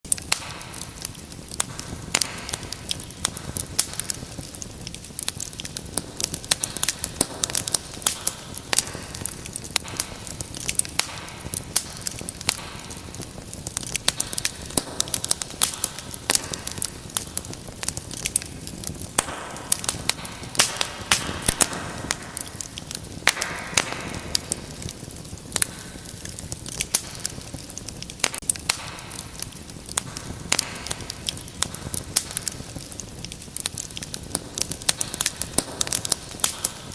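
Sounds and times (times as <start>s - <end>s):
fireplace fire crackling: 0.0s - 36.9s.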